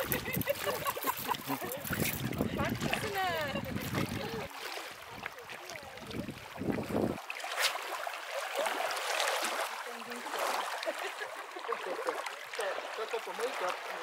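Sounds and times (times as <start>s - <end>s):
small waves lapping on rocks: 0.0s - 14.0s
water swishing around wading legs: 0.0s - 14.0s.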